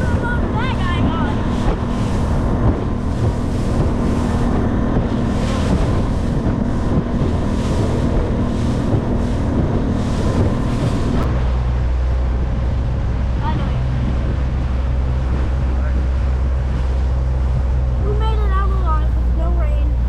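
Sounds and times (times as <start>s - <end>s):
outboard motor running: 0.0s - 20.0s
water rushing past hull: 0.0s - 20.0s
wind buffeting microphone: 0.0s - 20.0s.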